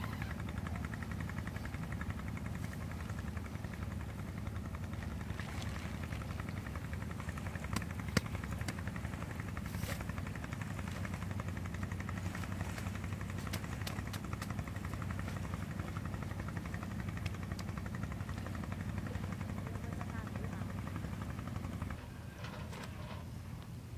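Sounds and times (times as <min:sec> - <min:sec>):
engine droning: 0:00.0 - 0:23.9.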